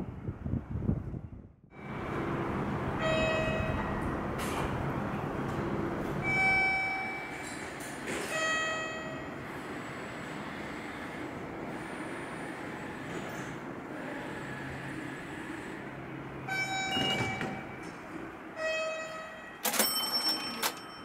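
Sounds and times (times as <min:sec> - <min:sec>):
outdoor street noise: 0:00.0 - 0:21.0
station concourse ambience: 0:01.8 - 0:21.0.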